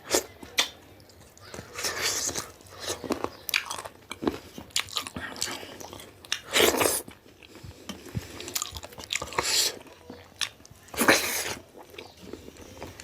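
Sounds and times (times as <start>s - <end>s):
chewing with wet mouth clicks: 0.2s - 13.0s.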